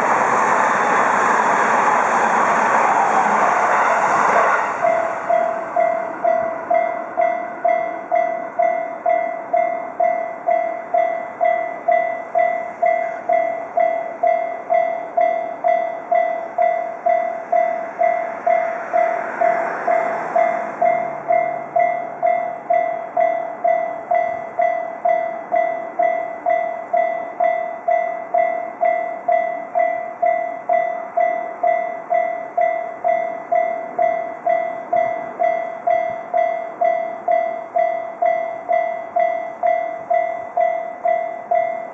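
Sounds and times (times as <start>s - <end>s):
level crossing warning bell: 4.2s - 41.9s.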